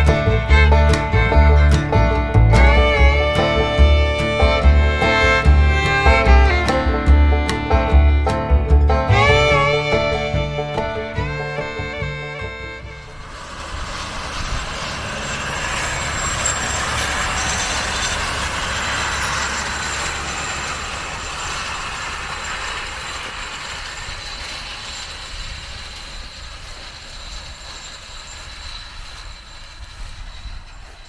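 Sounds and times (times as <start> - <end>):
tractor rumble and rattle: 0.0 - 31.0
high metallic squeals: 2.6 - 31.0.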